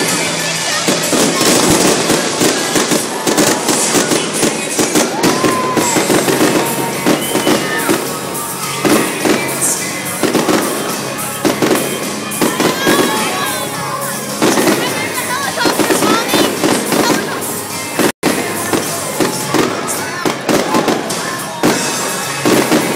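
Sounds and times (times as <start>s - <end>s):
fireworks bangs and crackles: 0.0s - 22.9s.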